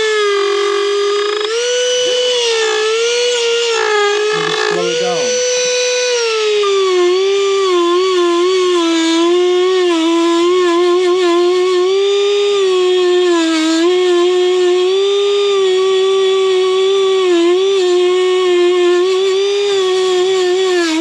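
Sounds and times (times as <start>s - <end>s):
rotary tool high whine: 0.0s - 21.0s.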